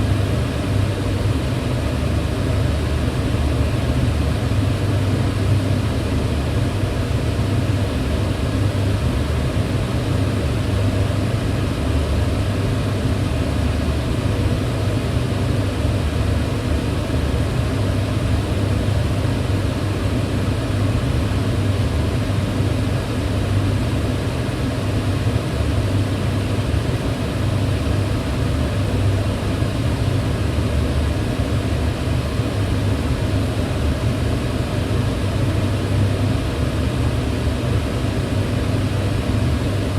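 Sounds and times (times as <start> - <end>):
range hood fan running: 0.0 - 39.9.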